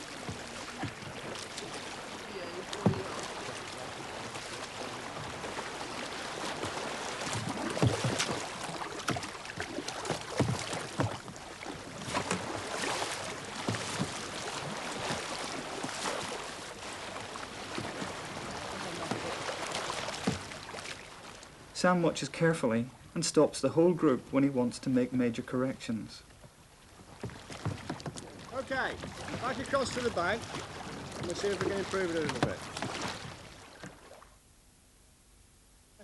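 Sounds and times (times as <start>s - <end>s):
paddles splashing in water: 0.0s - 21.8s, 25.7s - 34.4s
steady wash of water: 0.0s - 24.7s, 26.3s - 34.4s.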